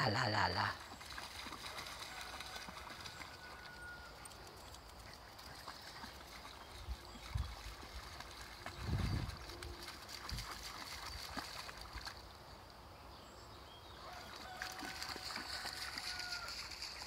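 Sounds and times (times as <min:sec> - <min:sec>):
dogs splashing through shallow water: 0:00.0 - 0:12.8, 0:13.9 - 0:17.0.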